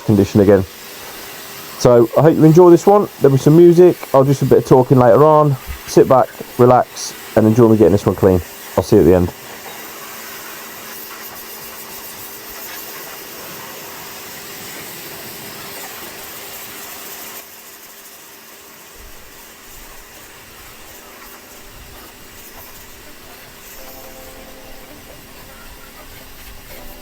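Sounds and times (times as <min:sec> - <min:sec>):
pressure washer spraying: 0:00.0 - 0:27.0.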